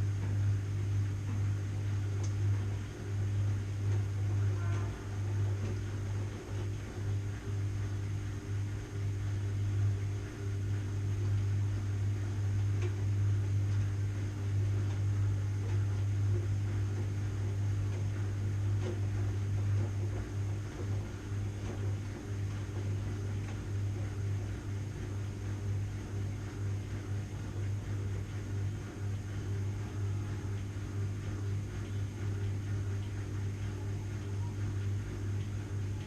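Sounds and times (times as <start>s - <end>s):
washing machine running: 0.0s - 36.0s.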